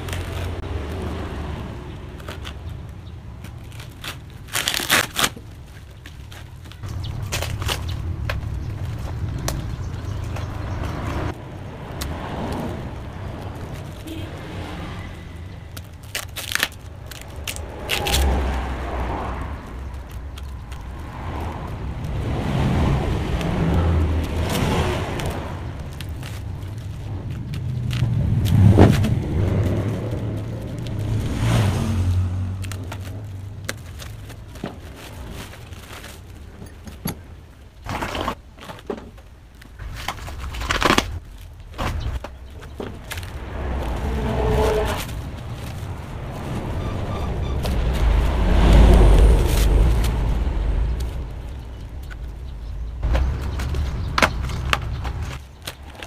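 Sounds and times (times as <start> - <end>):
motor vehicle engine: 6.6 - 37.6, 41.3 - 56.0.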